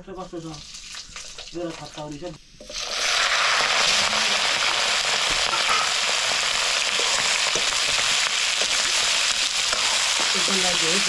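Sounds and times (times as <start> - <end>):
food sizzling in oil: 0.0 - 11.0
oil popping and crackling: 0.0 - 11.0.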